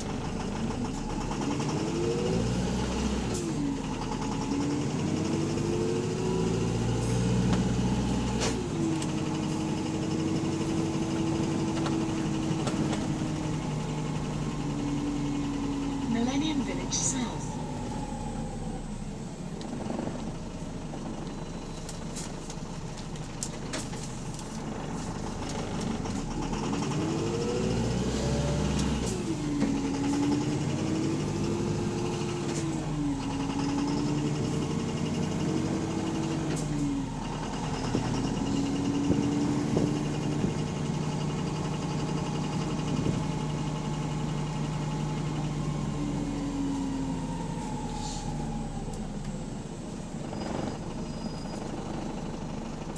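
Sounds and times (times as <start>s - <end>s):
bus engine with rod knock: 0.0s - 17.0s, 19.5s - 45.7s, 48.9s - 52.9s.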